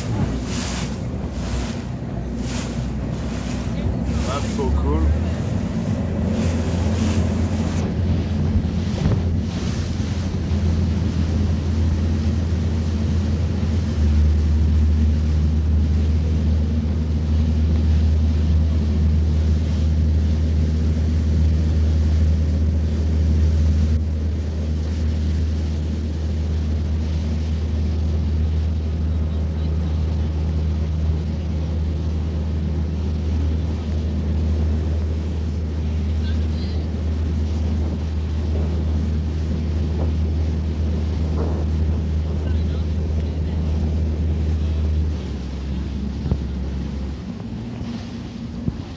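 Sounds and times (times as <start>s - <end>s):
boat motor humming: 0.0s - 48.9s
water rushing past hull: 0.0s - 48.9s
wind buffeting microphone: 0.0s - 48.9s.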